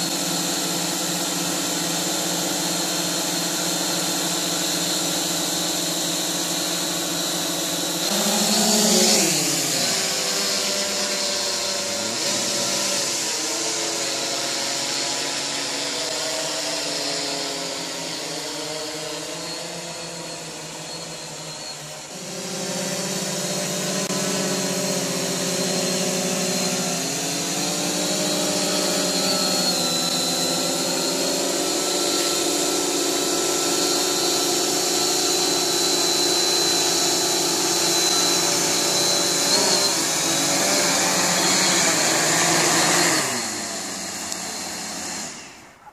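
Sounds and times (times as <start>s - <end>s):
drone propellers buzzing: 0.0s - 45.9s.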